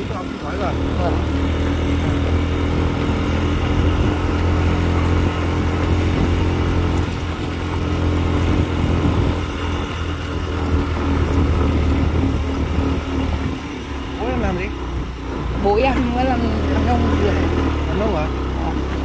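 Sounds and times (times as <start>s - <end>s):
small motorcycle engine running: 0.0s - 19.0s
wind and road noise: 0.0s - 19.0s.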